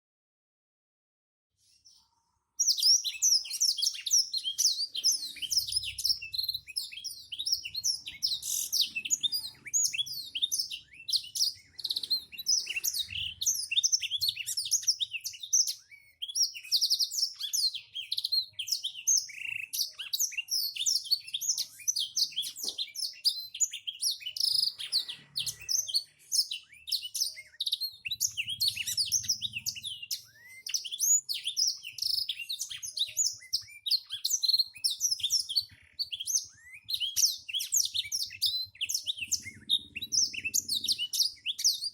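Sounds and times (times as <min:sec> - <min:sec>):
canary singing: 0:02.5 - 0:41.9.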